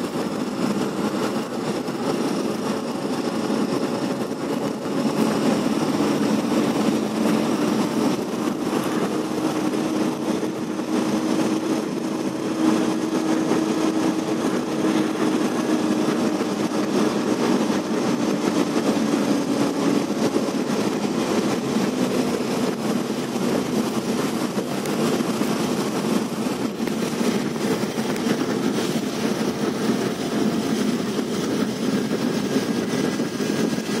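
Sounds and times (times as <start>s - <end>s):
moving passenger train: 0.0s - 34.0s.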